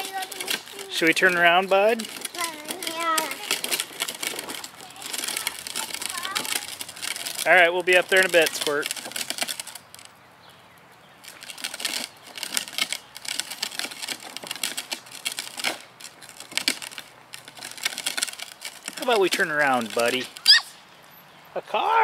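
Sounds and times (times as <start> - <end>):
ride-on bike rolling on rough road: 0.0 - 22.0.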